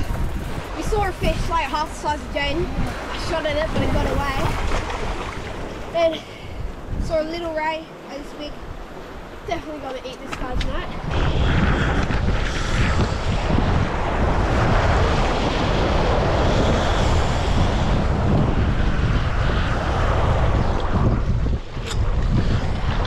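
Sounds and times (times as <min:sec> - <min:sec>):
ocean surf: 0:00.0 - 0:23.0
wind buffeting microphone: 0:00.0 - 0:23.0.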